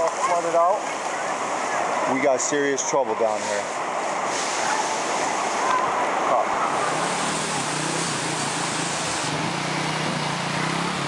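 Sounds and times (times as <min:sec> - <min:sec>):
faint distant voices: 0:00.0 - 0:09.4
floodwater rushing: 0:00.0 - 0:11.0.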